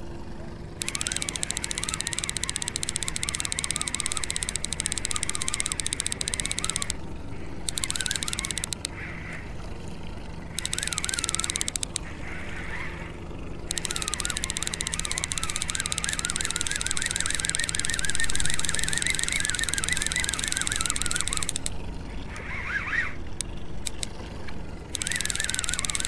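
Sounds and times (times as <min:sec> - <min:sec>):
steady low hum: 0:00.0 - 0:26.0
fishing reel cranking: 0:00.8 - 0:08.9, 0:10.5 - 0:12.8, 0:13.6 - 0:24.2, 0:24.9 - 0:26.0.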